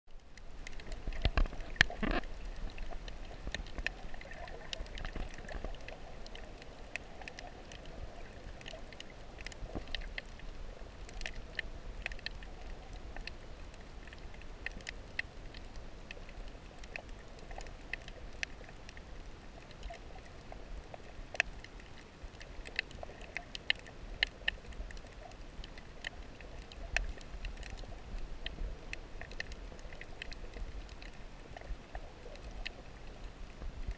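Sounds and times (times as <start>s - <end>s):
muffled underwater rumble: 0.1s - 33.9s
sharp underwater clicks and crackles: 0.1s - 33.9s.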